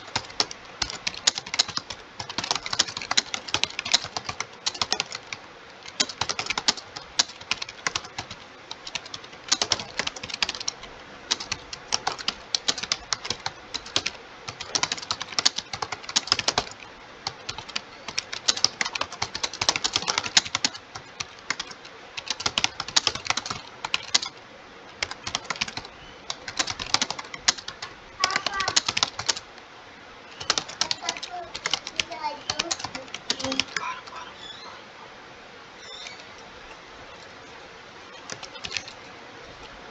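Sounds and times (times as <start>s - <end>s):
fast typing on computer keyboard: 0.0s - 24.4s, 25.0s - 29.5s, 30.3s - 33.8s, 38.1s - 39.0s.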